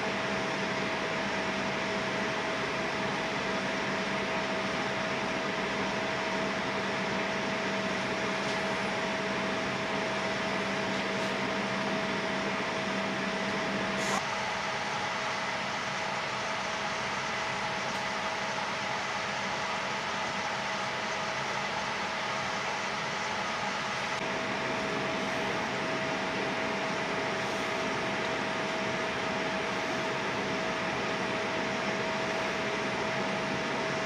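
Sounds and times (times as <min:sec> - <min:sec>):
train air conditioning hum: 0:00.0 - 0:34.0.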